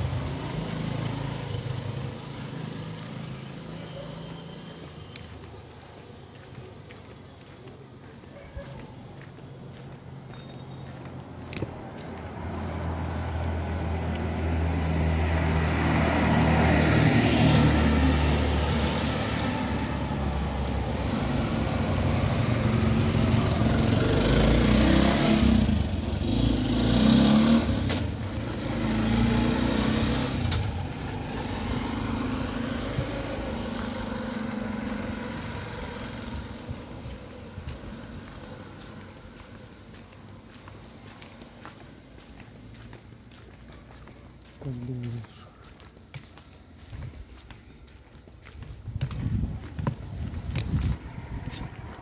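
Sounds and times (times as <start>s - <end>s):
traffic passing close by: 0.0s - 52.0s.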